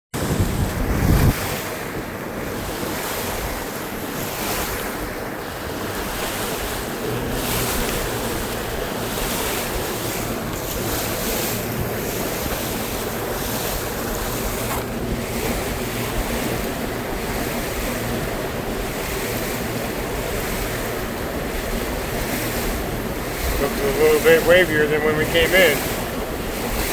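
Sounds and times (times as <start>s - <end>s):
water lapping against boat hull: 0.1s - 26.9s
wind buffeting microphone: 0.1s - 26.9s.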